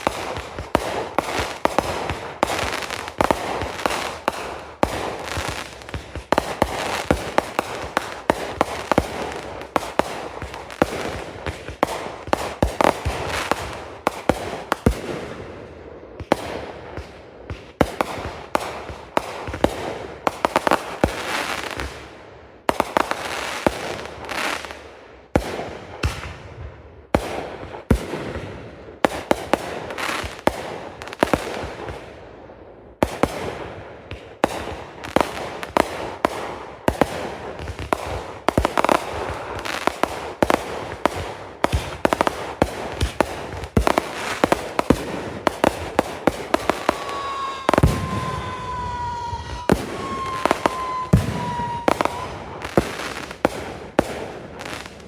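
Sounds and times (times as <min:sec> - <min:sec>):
fireworks bangs: 0:00.0 - 0:32.0, 0:33.0 - 0:55.0.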